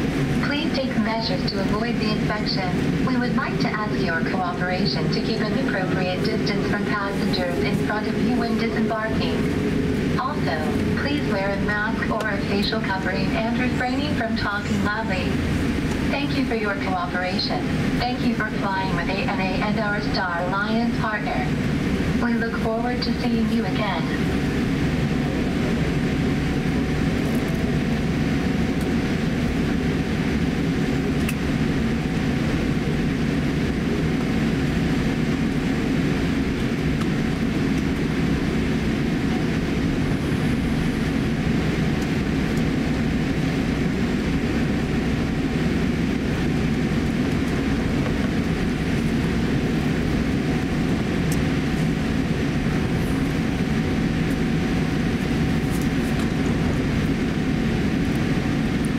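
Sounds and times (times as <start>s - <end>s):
airframe rumbling on taxiway: 0.0s - 58.9s
jet engines idling: 0.0s - 58.9s.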